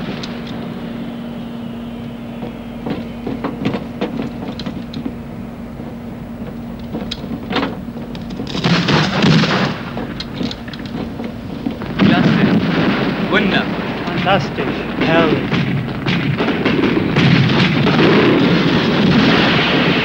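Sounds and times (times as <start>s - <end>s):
loud rumbling blast: 0.0s - 20.0s
sharp cracks: 0.0s - 20.0s.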